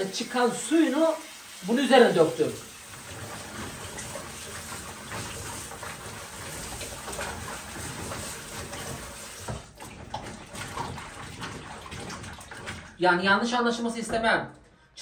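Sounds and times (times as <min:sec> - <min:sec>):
water sloshing in a plastic basin: 0:00.2 - 0:14.4.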